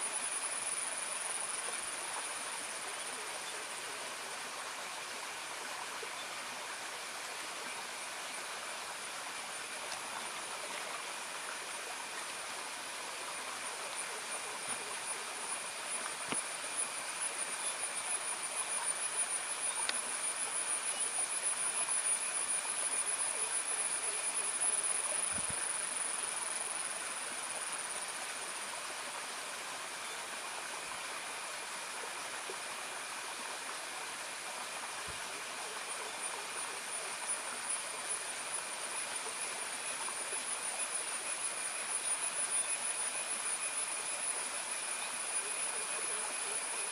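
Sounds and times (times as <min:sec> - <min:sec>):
forest ambience hiss: 0:00.0 - 0:46.9
high-pitched insect drone: 0:00.0 - 0:46.9.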